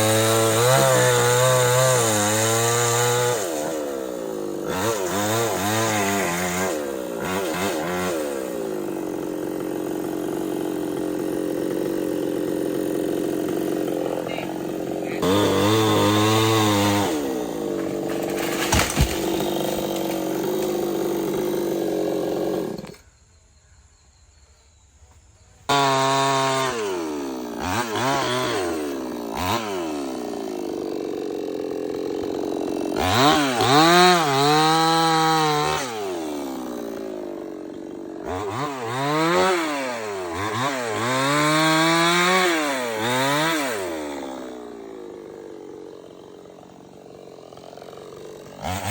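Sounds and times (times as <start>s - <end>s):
chainsaw cutting wood: 0.0s - 23.0s, 25.7s - 48.9s.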